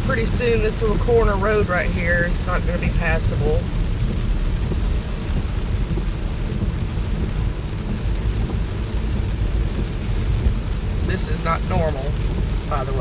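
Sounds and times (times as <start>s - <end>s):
deep low rumble: 0.0s - 13.0s
floodwater rushing: 0.0s - 13.0s
heavy rain: 0.0s - 13.0s.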